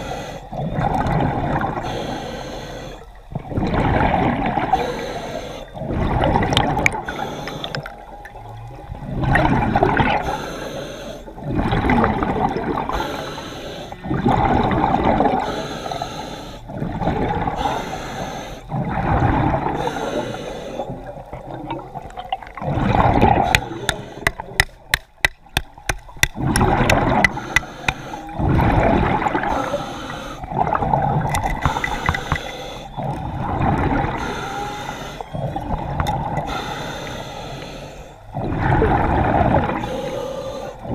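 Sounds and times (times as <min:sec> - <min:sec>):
diver breathing underwater: 0:00.0 - 0:08.1, 0:09.2 - 0:21.2, 0:22.6 - 0:40.9.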